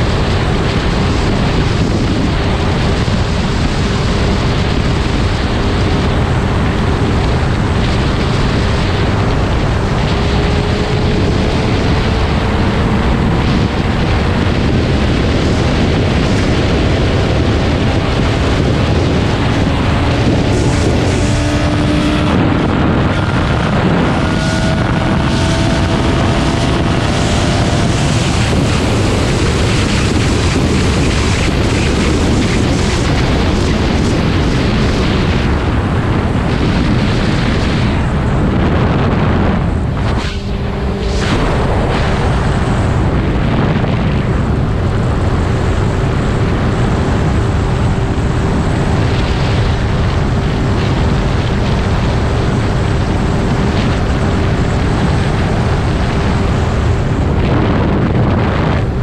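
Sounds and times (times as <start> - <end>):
motorcycle engine: 0.0 - 59.0
wind rushing over microphone: 0.0 - 59.0.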